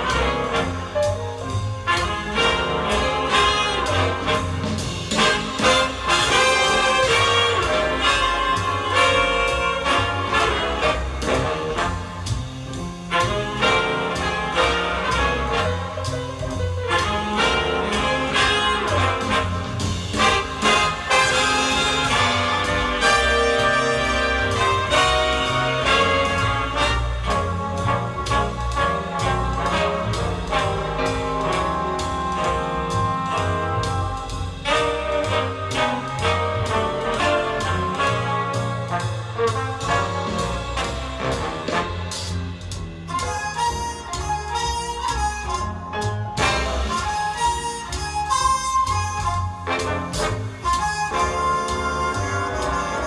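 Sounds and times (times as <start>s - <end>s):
brass music through loudspeaker: 0.0s - 53.0s.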